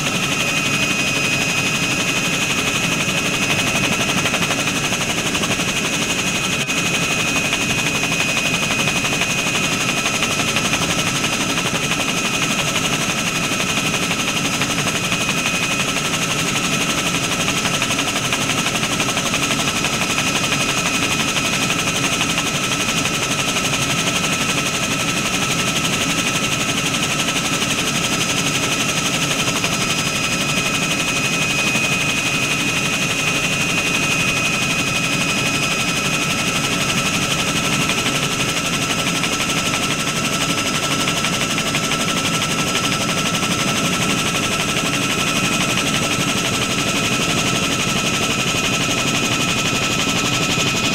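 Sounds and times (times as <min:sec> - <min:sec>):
helicopter engine and rotor clatter: 0:00.0 - 0:50.9.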